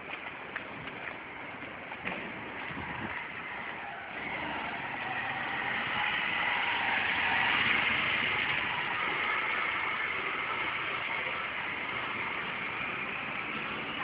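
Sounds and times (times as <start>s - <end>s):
car passing: 2.0s - 14.0s.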